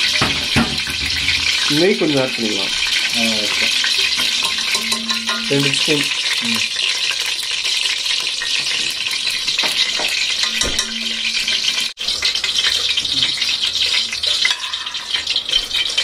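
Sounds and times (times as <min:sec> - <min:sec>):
ghee sizzling and crackling: 0:00.0 - 0:16.0.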